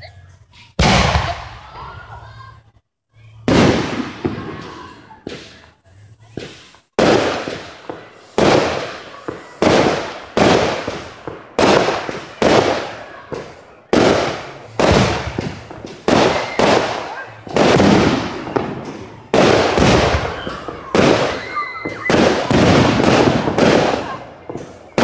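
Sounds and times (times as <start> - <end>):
fireworks bursting: 0.2 - 25.0.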